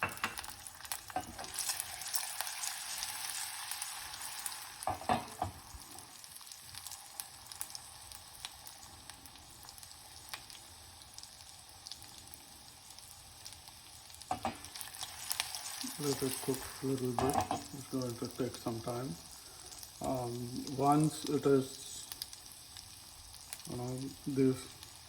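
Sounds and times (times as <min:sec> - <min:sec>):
spices sizzling in hot oil: 0:00.0 - 0:25.0.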